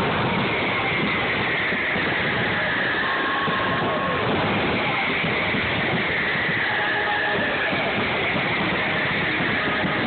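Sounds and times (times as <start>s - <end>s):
firework whistle falling: 0.0s - 10.0s
fireworks crackling and hissing: 0.0s - 10.0s.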